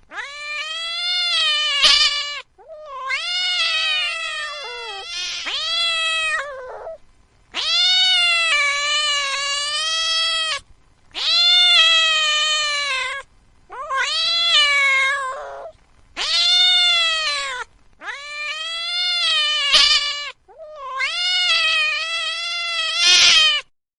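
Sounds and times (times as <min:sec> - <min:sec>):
cat yowling: 0:00.0 - 0:23.7.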